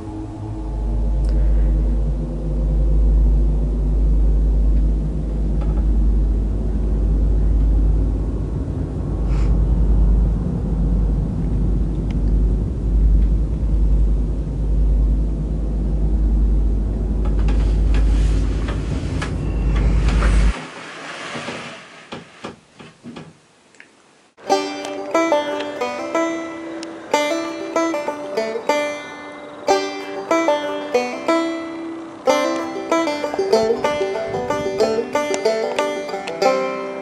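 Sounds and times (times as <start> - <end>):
deep rumble: 0.0 - 21.6, 24.5 - 37.0.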